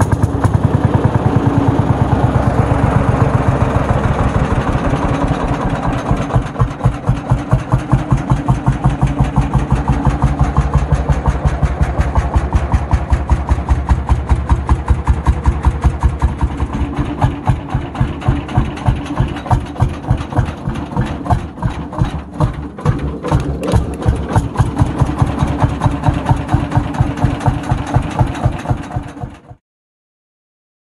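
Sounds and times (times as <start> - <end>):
tractor engine idling: 0.0 - 29.6.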